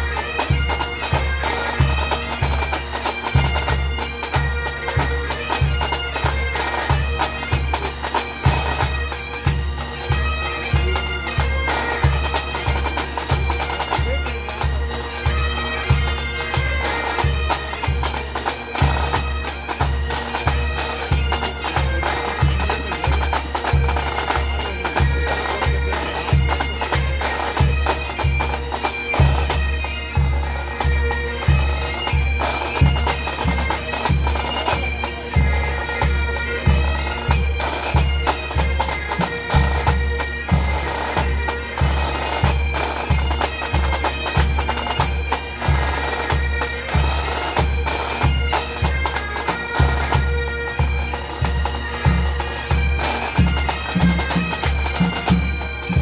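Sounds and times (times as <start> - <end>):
bagpipes playing a tune: 0.0 - 56.0.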